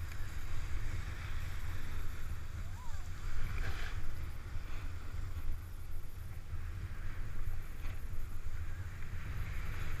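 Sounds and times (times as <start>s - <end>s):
snowboard sliding on snow: 0.0s - 10.0s
wind buffeting microphone: 0.0s - 10.0s.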